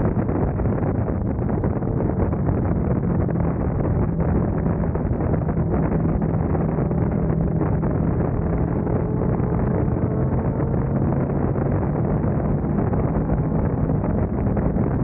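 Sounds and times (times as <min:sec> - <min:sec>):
motorcycle engine humming: 0:00.0 - 0:15.0
wind on microphone: 0:00.0 - 0:15.0.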